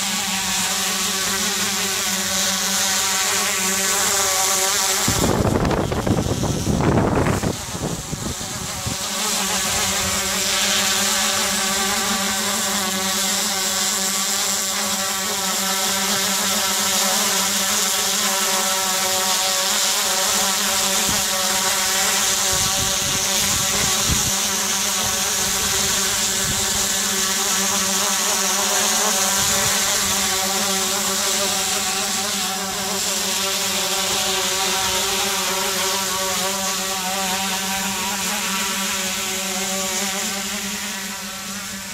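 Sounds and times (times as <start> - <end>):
drone rotors buzzing: 0.0 - 41.9.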